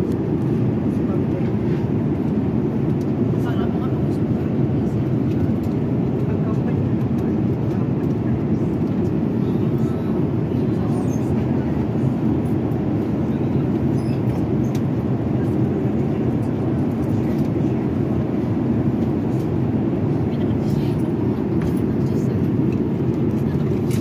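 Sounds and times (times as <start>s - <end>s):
jet airliner cabin rumble: 0.0s - 24.0s.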